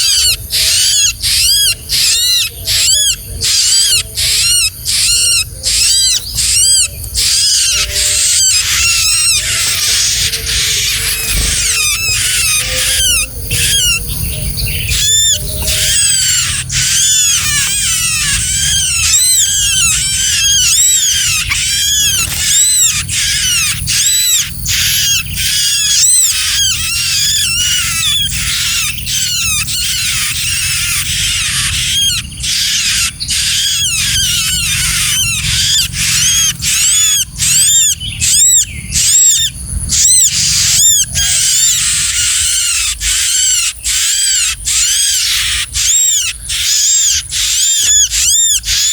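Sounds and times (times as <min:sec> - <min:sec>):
small birds chirping rapidly: 0:00.0 - 0:48.9.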